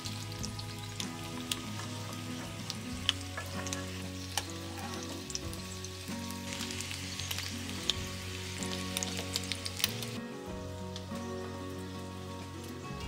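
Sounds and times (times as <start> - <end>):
food sizzling in oil: 0.0 - 13.0
soft background music: 0.0 - 13.0.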